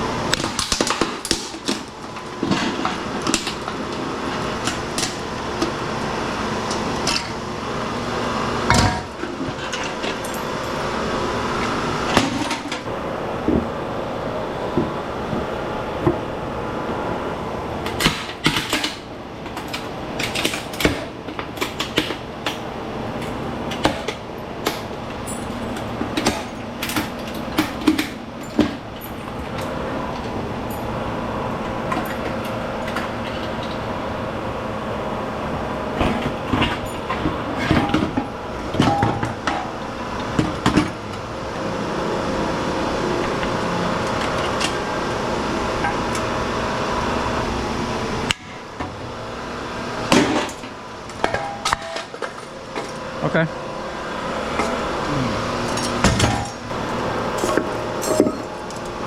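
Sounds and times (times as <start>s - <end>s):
steady machine hum: 0.0s - 59.0s.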